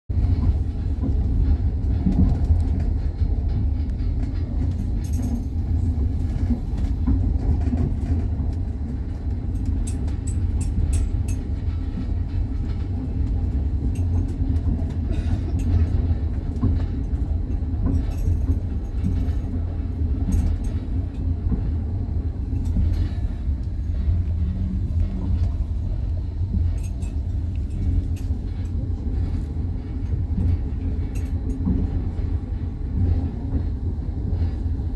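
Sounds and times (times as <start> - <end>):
train wheels rumbling on rails: 0.1 - 34.9.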